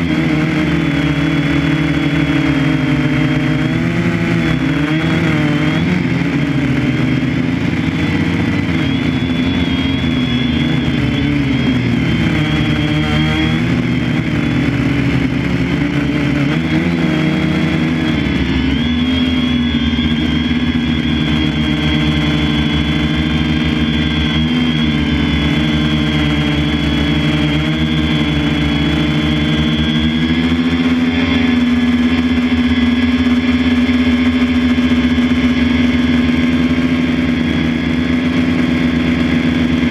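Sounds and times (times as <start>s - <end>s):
farm machinery engine running: 0.0s - 39.9s
steady high whine: 0.0s - 39.9s.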